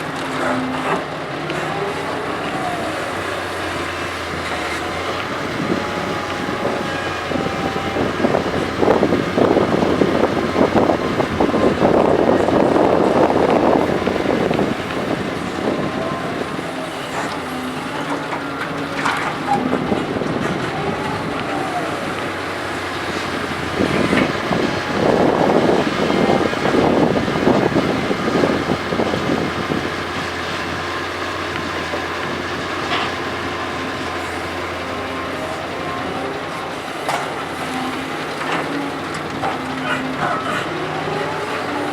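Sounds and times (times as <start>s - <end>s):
excavator running: 0.0s - 41.9s
excavator whine: 0.0s - 41.9s.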